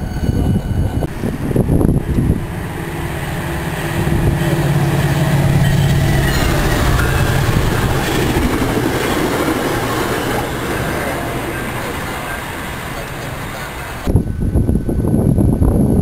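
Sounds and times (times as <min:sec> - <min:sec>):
train wheels on rails: 0:00.0 - 0:14.1
diesel locomotive engine drone: 0:00.0 - 0:15.2.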